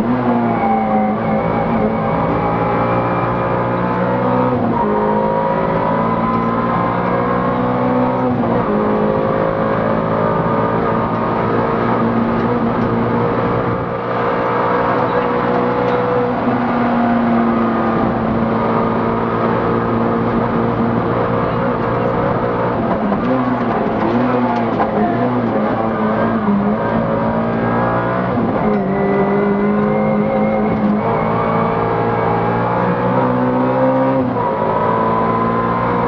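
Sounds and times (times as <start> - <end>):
rally car engine accelerating: 0.0 - 36.0.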